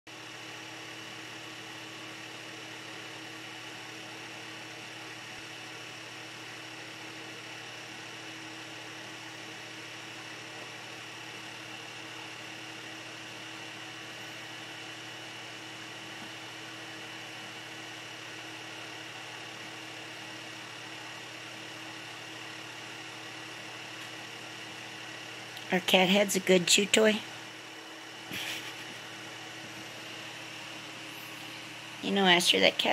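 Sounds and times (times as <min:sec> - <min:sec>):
electric fan humming: 0:00.1 - 0:32.9.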